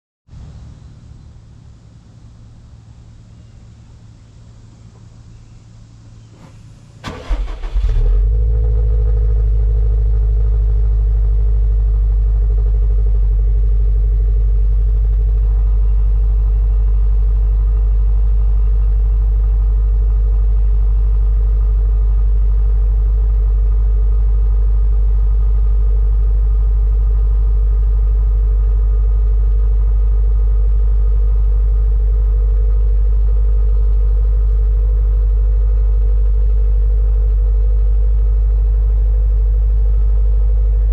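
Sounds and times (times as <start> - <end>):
car engine starting and idling: 5.9 - 40.9.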